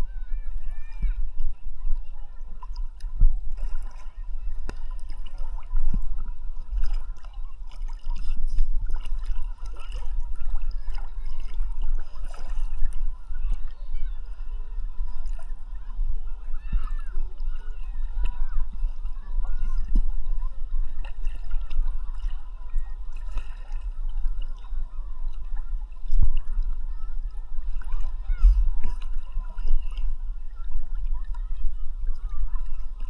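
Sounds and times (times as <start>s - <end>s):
constant low rumble: 0.0s - 33.0s
sea water sloshing: 0.0s - 33.0s
small water splashes: 0.0s - 33.0s.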